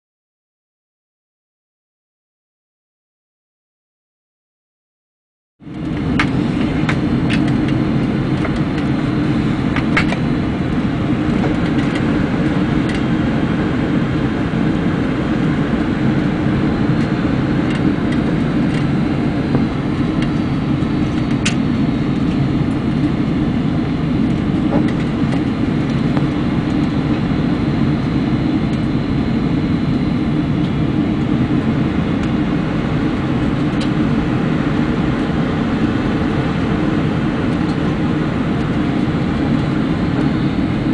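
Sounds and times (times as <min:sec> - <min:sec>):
low rumble of jet engines: 0:05.6 - 0:40.9.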